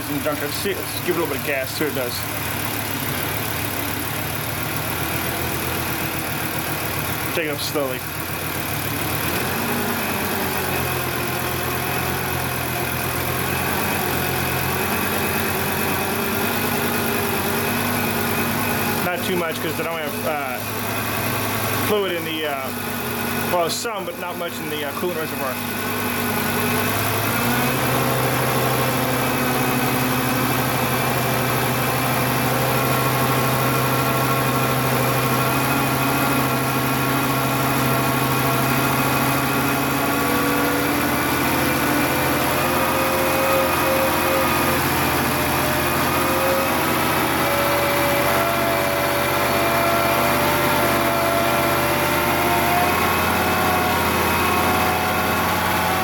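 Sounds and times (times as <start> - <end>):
car engine running above idle: 0.0 - 56.0.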